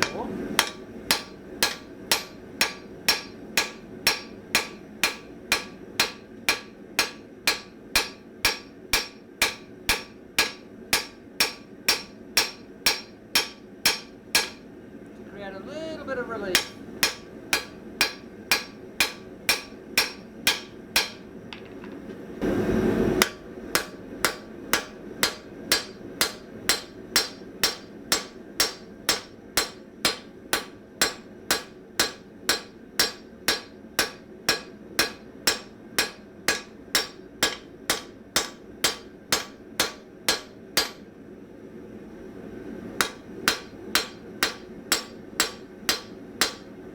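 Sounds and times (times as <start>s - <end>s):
hammer striking hot steel on anvil: 0.0s - 14.7s, 16.5s - 21.9s, 23.2s - 41.2s, 43.0s - 46.8s.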